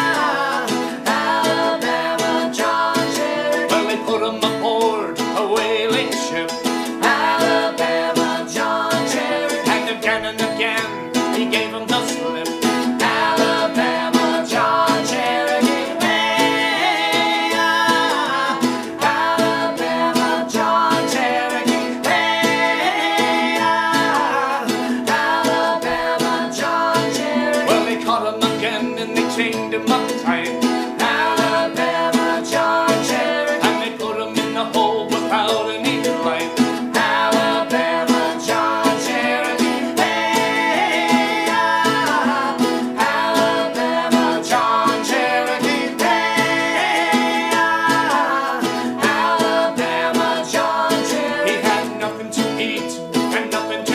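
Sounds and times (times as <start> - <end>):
person singing: 0.0 - 53.9
string band playing folk song: 0.0 - 53.9.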